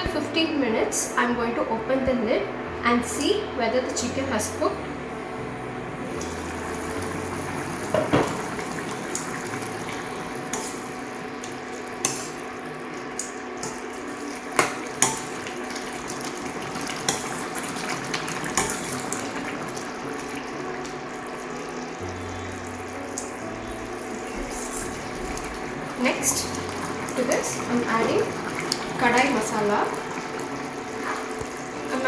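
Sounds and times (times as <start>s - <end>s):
gravy bubbling in a pan: 6.0s - 32.0s.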